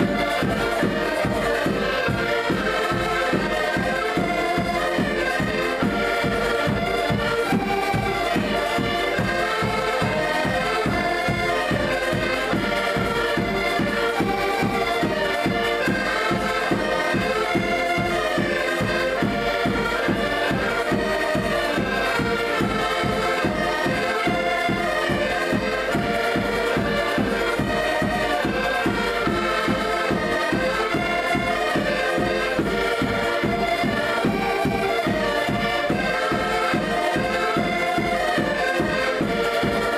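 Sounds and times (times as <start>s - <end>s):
accordions playing folk music: 0.0s - 39.9s.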